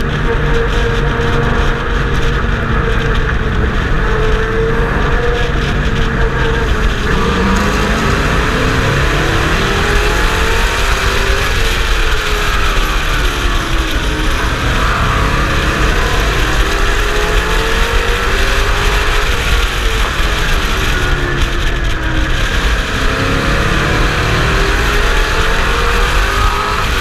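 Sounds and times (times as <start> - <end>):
race truck engine running hard: 0.0 - 27.0
road noise: 0.0 - 27.0
wind noise: 0.0 - 27.0.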